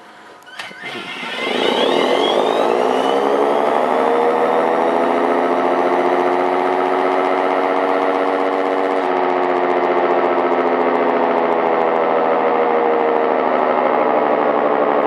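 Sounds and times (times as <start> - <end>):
siren wailing two-tone chord: 0.6 - 15.0.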